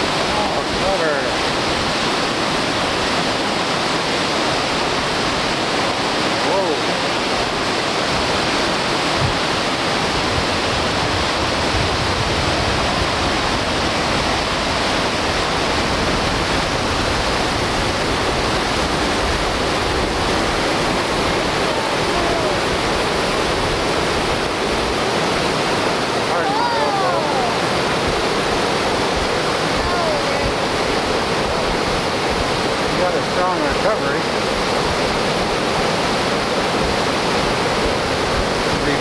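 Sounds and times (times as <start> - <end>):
river rapids rushing: 0.0 - 39.0.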